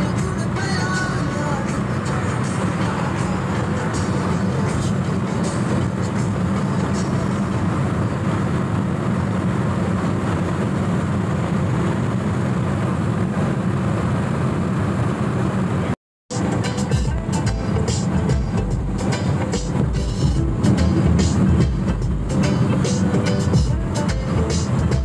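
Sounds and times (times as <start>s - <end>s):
car cabin engine and road drone: 0.0s - 25.0s.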